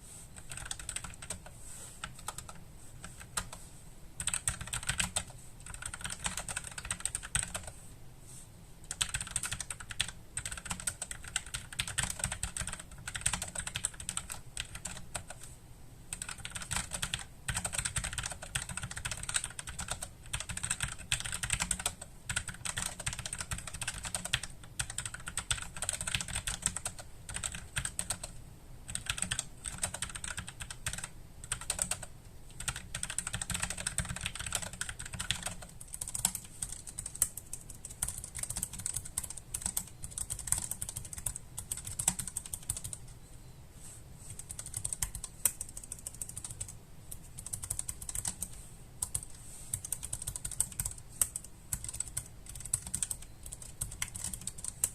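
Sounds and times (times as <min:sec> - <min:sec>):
typing on mechanical keyboard: 0:00.4 - 0:03.6, 0:04.2 - 0:07.7, 0:08.9 - 0:15.5, 0:16.1 - 0:28.3, 0:28.9 - 0:43.0, 0:44.4 - 0:54.9.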